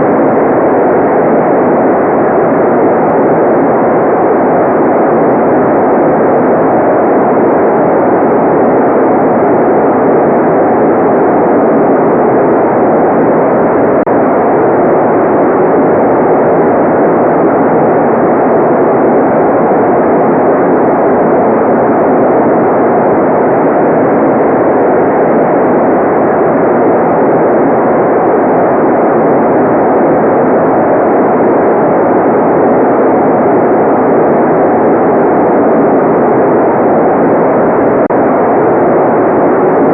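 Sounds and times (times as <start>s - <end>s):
muffled white noise: 0.0s - 39.9s.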